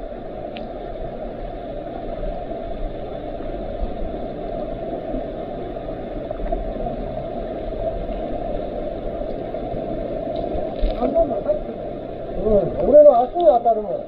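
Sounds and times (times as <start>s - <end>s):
muffled underwater water rumble: 0.0s - 14.0s.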